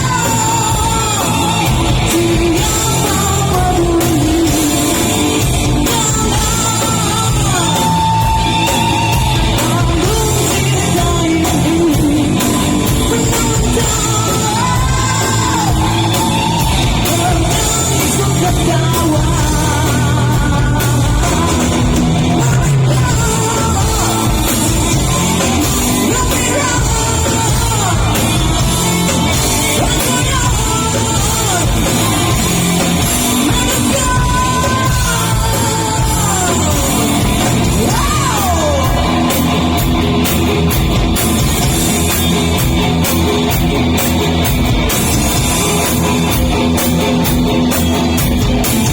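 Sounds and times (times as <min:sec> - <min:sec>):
amplified rock band music: 0:00.0 - 0:48.9
man singing rock song: 0:00.0 - 0:48.9.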